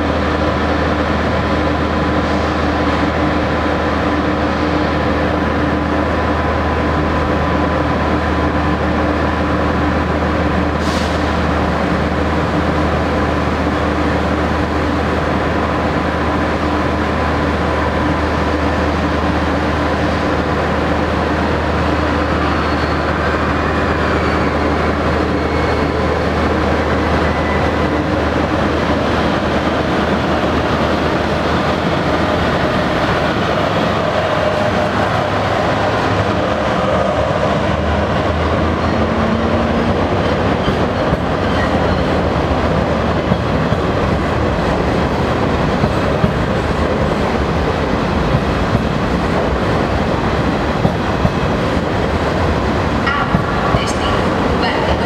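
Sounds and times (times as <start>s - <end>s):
train carriages rumbling past: 0.0s - 55.0s.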